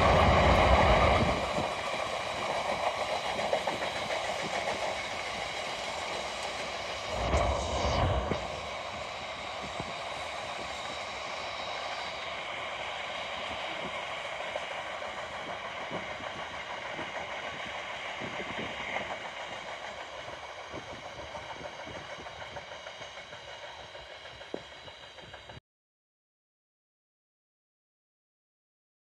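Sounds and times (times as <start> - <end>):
freight train wheels clicking on rails: 0.0 - 25.6.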